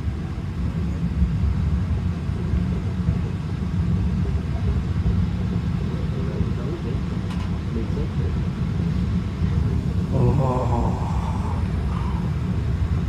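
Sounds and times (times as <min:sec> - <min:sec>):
train rumble inside car: 0:00.0 - 0:13.0.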